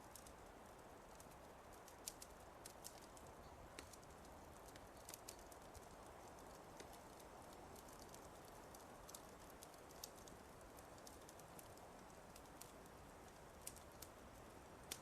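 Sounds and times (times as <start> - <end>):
fire crackling: 0.0 - 15.0
soft steady hiss: 0.0 - 15.0.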